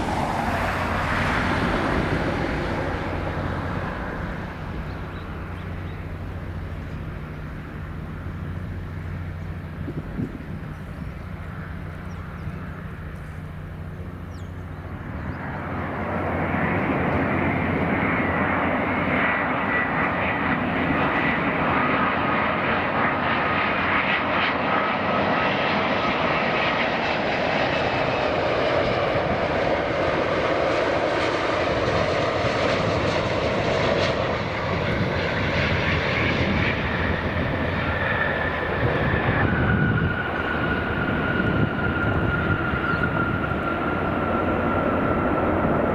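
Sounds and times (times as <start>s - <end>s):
faint engine whine: 0.0s - 45.9s
jet engines roaring: 0.0s - 45.9s.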